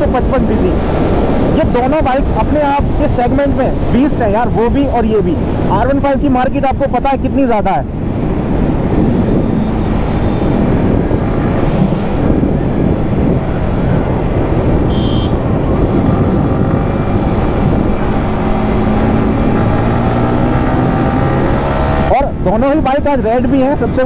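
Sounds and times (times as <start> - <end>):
wind rush: 0.0 - 24.0.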